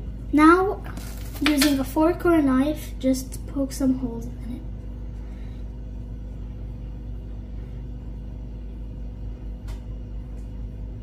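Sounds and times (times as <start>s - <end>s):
faint even hum: 0.0s - 11.0s
steady low rumble: 0.0s - 11.0s.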